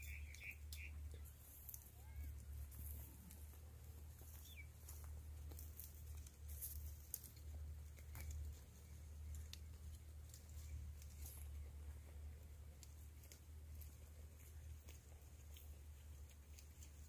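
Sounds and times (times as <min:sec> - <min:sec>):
brush rustling: 0:00.0 - 0:17.0
goats tearing grass: 0:00.0 - 0:17.0
low steady rumble: 0:00.0 - 0:17.0.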